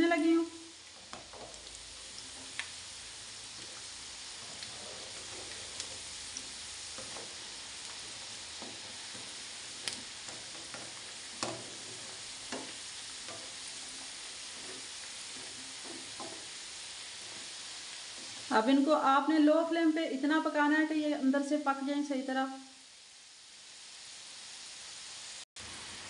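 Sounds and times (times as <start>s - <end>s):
food deep-frying in hot oil: 0.0s - 26.0s.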